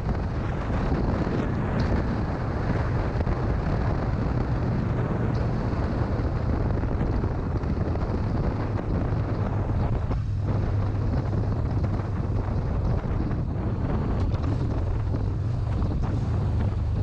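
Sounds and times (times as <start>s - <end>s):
motorcycle engine drone: 0.0s - 17.0s
wind buffeting microphone: 0.0s - 17.0s.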